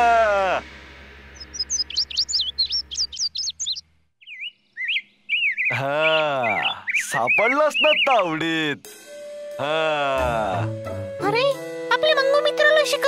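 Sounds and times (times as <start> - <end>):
birds chirping: 0.6 - 11.2.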